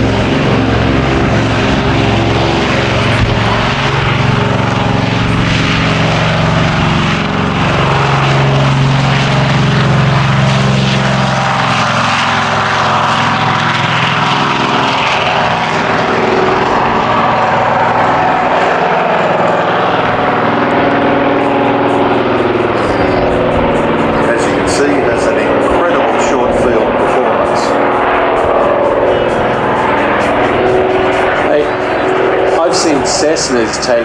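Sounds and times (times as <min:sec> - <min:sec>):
propeller plane engines droning: 0:00.0 - 0:34.0.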